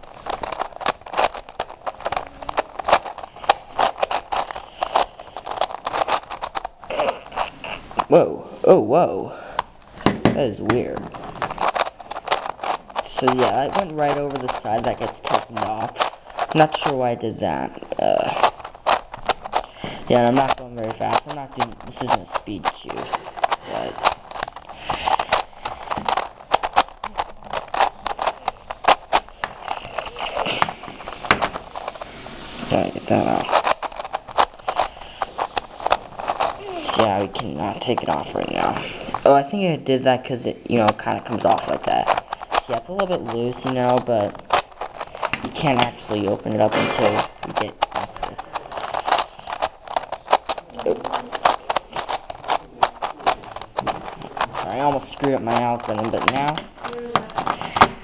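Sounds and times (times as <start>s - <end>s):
plastic puzzle pieces clicking: 0.0s - 8.1s, 9.5s - 58.0s.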